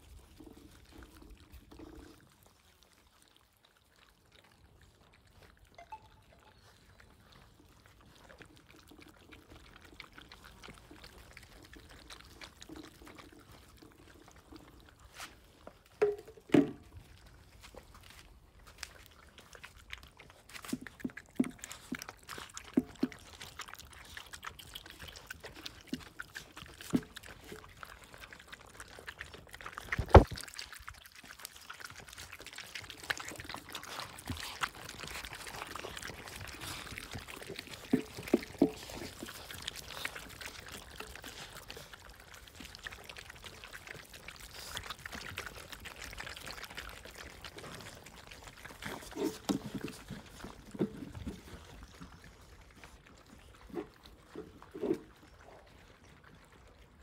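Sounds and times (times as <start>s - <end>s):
puppies chewing and slurping: 0.0s - 57.0s.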